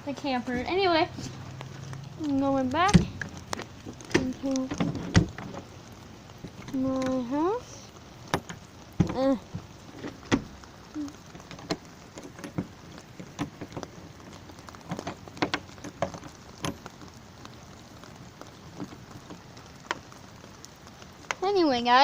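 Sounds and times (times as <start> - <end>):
steady rainfall: 0.0 - 22.0.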